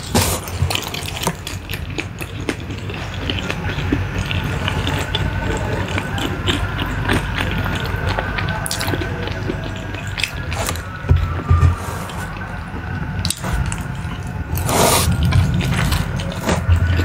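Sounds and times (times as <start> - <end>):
chewing and crunching: 0.0 - 17.0
steady low hum: 0.0 - 17.0.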